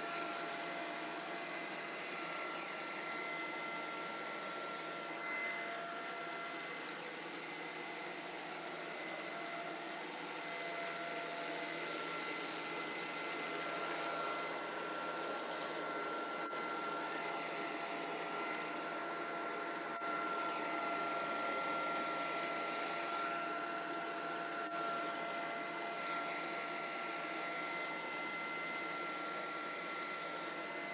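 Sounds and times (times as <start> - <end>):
robot vacuum cleaner whirring: 0.0 - 30.9.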